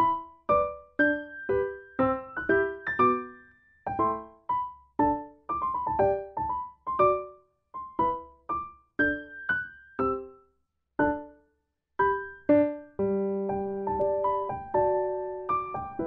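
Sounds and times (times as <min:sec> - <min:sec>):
light piano tune: 0:00.0 - 0:11.4, 0:12.0 - 0:16.0.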